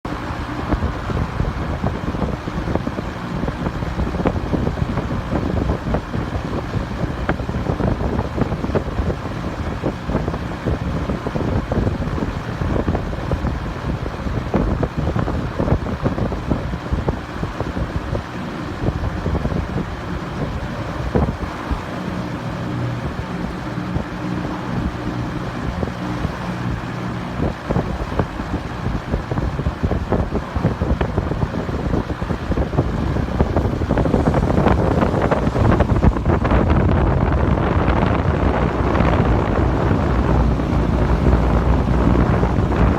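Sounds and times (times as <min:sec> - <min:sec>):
exhaust fan air rushing: 0:00.0 - 0:42.9
faint motor hum: 0:00.1 - 0:42.9
wind buffeting microphone: 0:00.1 - 0:42.9.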